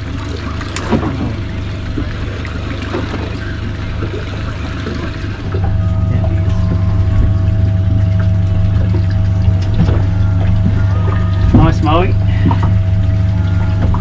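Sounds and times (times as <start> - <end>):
boat motor humming: 0.0 - 14.0
water lapping around hull: 0.0 - 14.0.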